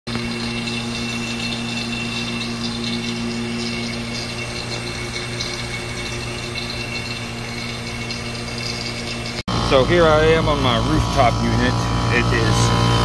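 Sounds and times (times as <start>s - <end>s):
vacuum pump motor hum: 0.1s - 13.0s.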